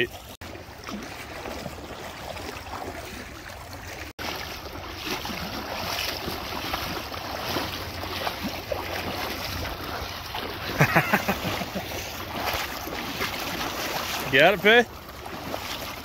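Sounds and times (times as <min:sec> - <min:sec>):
water splashing around wading legs: 0:00.0 - 0:16.0.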